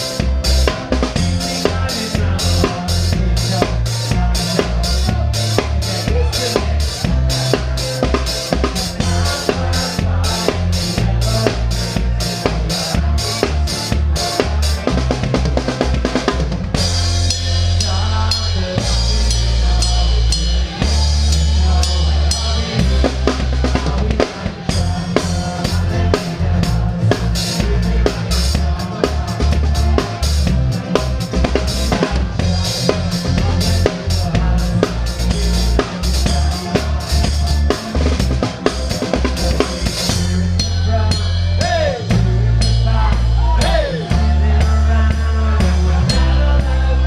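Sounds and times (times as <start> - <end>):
bass guitar: 0.0 - 47.0
drum kit playing: 0.0 - 47.0.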